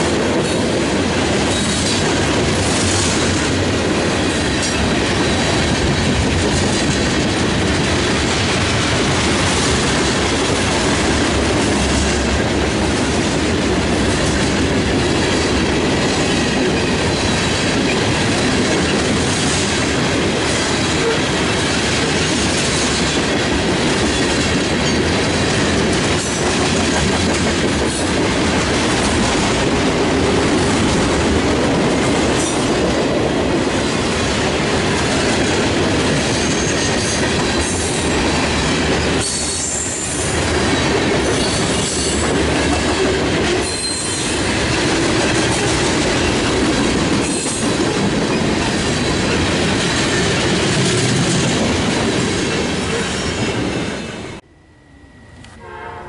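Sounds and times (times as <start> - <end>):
freight train wheels rumbling on rails: 0.0 - 54.4.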